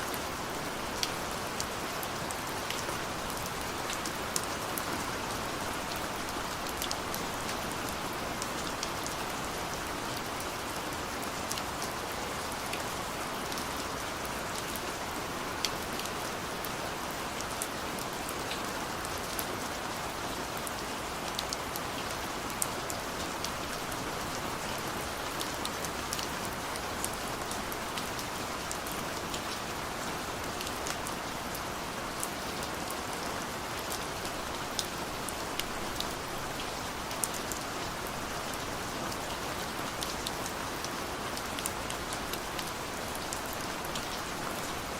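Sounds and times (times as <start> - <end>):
raindrops ticking on a surface: 0.0 - 14.9, 20.5 - 44.9
rain falling: 0.0 - 44.9.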